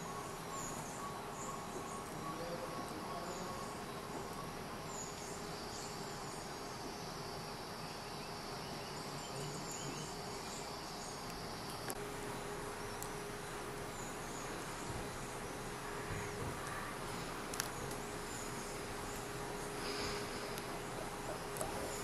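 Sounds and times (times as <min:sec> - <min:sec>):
constant hiss: 0:00.0 - 0:22.0
insects buzzing: 0:00.0 - 0:22.0.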